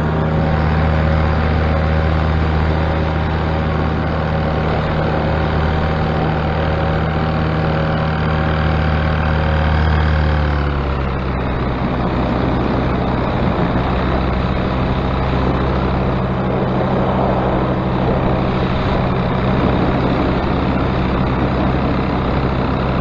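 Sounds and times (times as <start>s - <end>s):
paramotor engine running: 0.0s - 23.0s
rough buzzing propeller noise: 0.0s - 23.0s.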